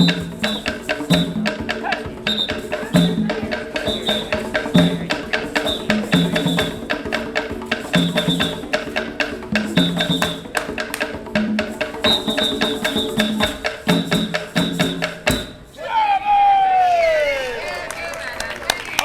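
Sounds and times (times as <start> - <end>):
wood block percussion beat: 0.0 - 15.7.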